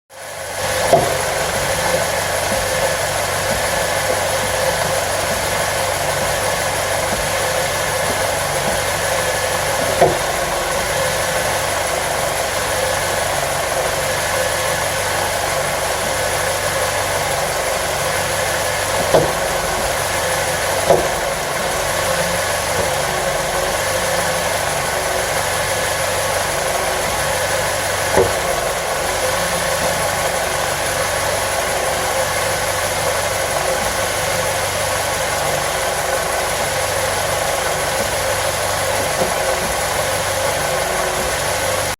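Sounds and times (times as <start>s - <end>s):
car engine idling: 0.1s - 41.9s
sharp engine knock: 0.4s - 41.9s.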